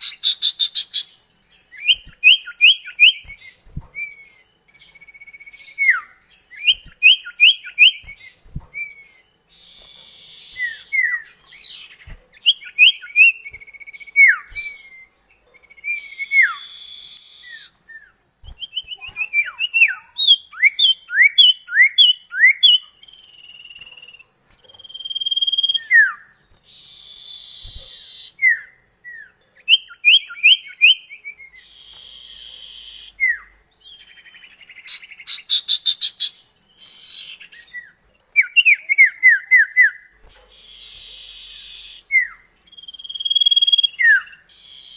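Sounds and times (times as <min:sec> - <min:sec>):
bird whistled notes: 0:00.0 - 0:44.9
harsh buzzy bird trills: 0:00.0 - 0:44.9.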